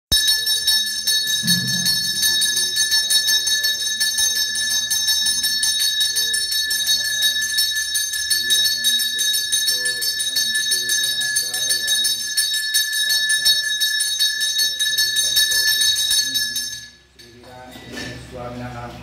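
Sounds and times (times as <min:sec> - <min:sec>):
bell ringing rapidly: 0:00.1 - 0:17.0.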